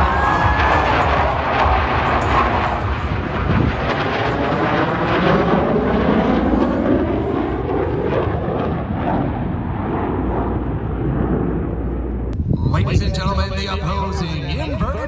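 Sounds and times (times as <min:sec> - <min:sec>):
airplane engine roar flying past: 0:00.0 - 0:15.0.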